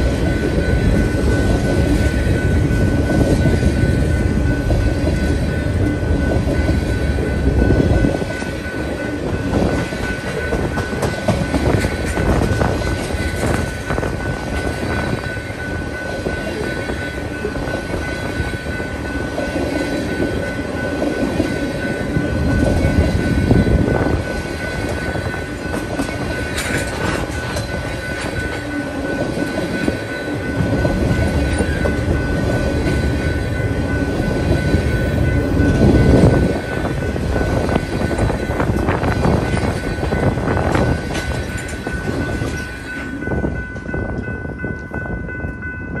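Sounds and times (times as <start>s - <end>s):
freight train wheels on rails: 0.0s - 46.0s
steady high-pitched tone: 0.0s - 46.0s.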